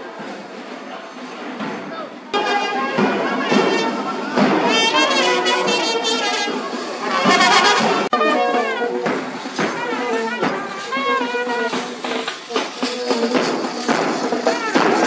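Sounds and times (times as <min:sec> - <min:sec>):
brass band playing: 0:02.3 - 0:15.0.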